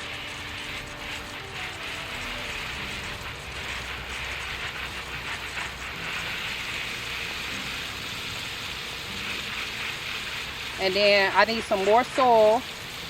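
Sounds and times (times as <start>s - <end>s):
water spraying onto soil: 0.0s - 13.0s.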